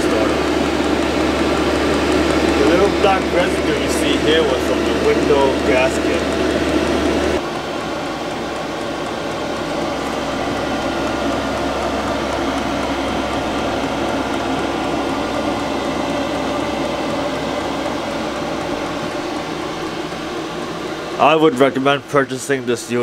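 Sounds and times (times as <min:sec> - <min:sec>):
heater blower whooshing: 0:00.0 - 0:23.0.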